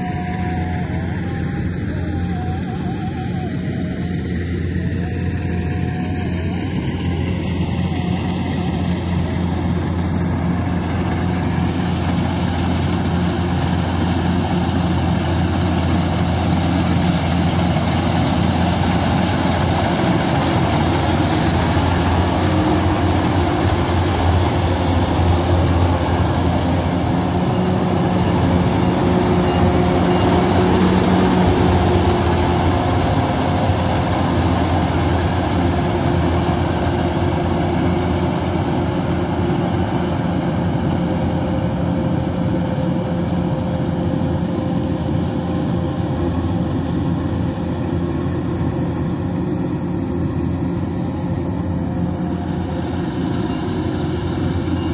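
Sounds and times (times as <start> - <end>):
combine harvester droning: 0.0 - 54.9.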